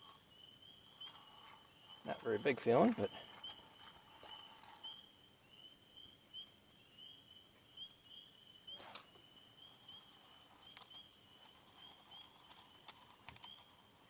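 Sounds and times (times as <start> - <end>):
small animal chirping: 0.0 - 14.0.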